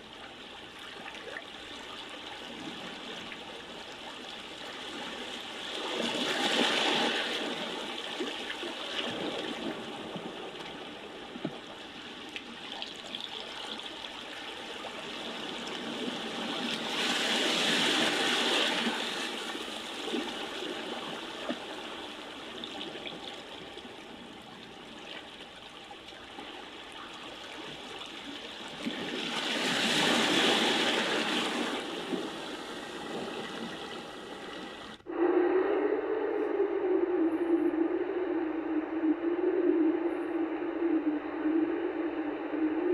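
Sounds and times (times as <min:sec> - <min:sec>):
rushing water: 0:00.0 - 0:35.0.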